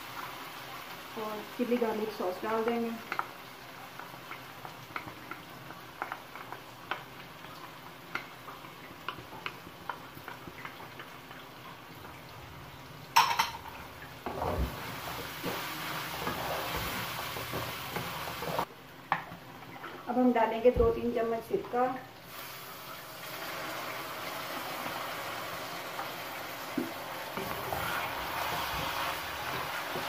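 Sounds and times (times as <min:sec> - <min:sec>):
food sizzling: 0:00.0 - 0:30.0.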